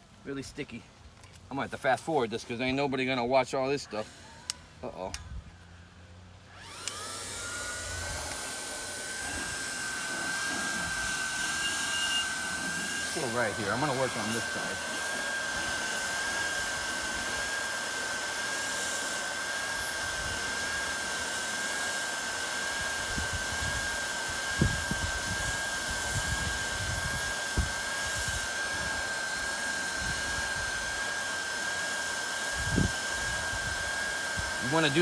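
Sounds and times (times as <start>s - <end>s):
hot-air gun whining: 6.5s - 35.0s.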